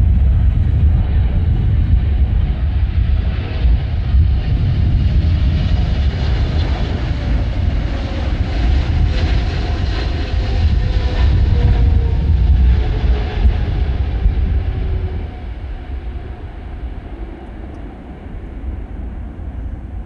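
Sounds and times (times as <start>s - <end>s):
faint engine whine: 0.0s - 20.0s
jet airliner noise: 0.0s - 20.0s
wind buffeting microphone: 0.0s - 20.0s.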